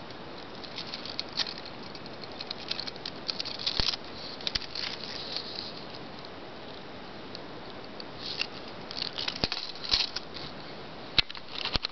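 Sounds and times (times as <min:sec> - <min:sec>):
faint steady hiss: 0:00.0 - 0:11.9.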